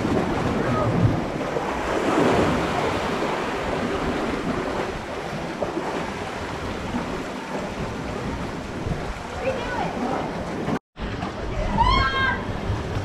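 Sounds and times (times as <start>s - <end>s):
wind on microphone: 0.0s - 10.8s
ocean swell sloshing in rock inlet: 0.0s - 13.0s.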